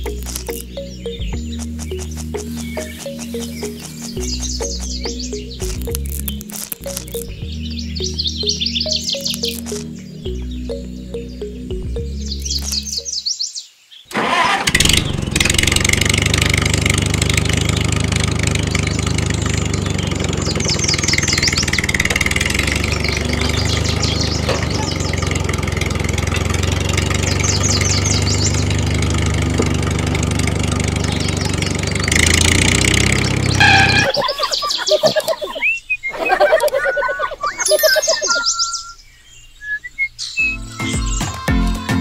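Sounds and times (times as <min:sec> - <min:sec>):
tractor engine idling: 0:00.0 - 0:13.1, 0:14.1 - 0:35.4
birds chirping: 0:00.0 - 0:42.0.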